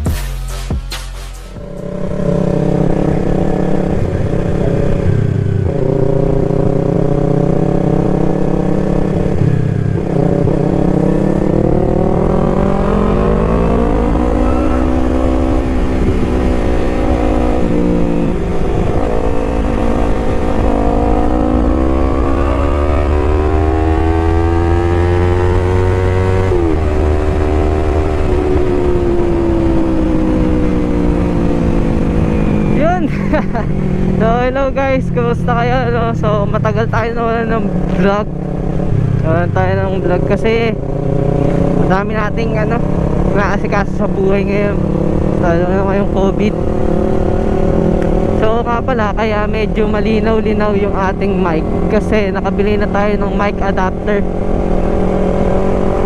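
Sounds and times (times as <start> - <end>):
motorcycle engine revving: 0.8 - 56.0.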